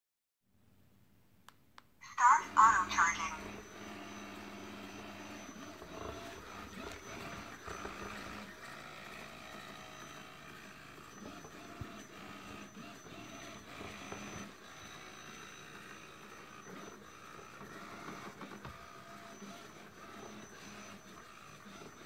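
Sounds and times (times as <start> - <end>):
robot vacuum motor hum: 2.7 - 22.0.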